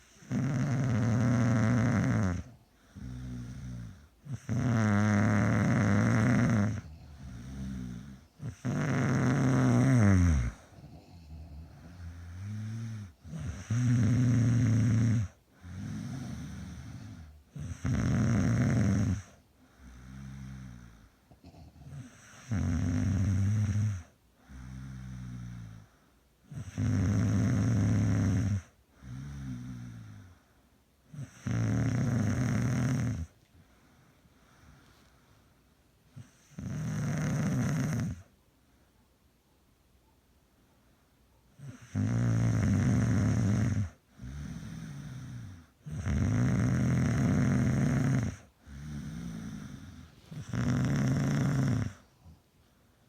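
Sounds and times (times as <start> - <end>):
person snoring: 0.0 - 25.9, 26.5 - 30.4, 31.2 - 33.3, 36.2 - 38.2, 41.6 - 52.4
quiet breathing: 0.0 - 39.2, 40.6 - 53.0.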